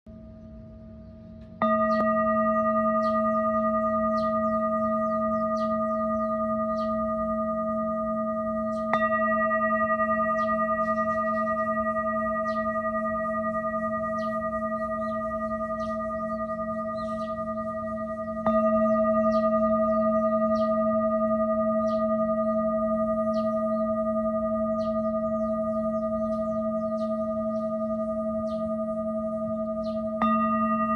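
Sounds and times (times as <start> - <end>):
singing bowl ringing: 0.1 - 30.9.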